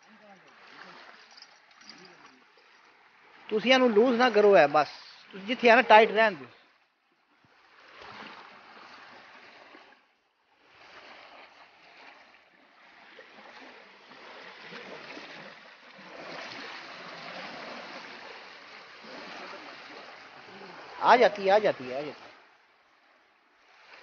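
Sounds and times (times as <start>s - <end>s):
small waves washing onto shore: 0.0s - 24.0s.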